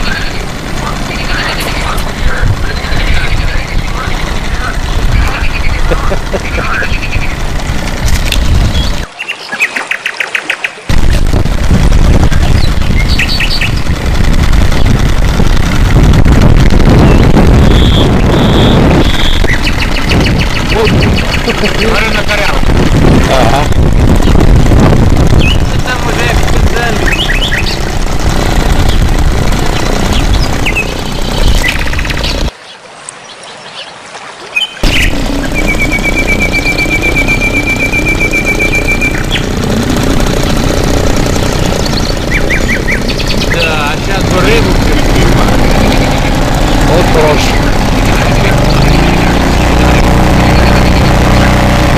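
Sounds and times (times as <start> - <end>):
loud low rumble: 0.0 - 9.1, 10.9 - 32.5, 34.8 - 51.9
birds chirping: 0.0 - 51.9.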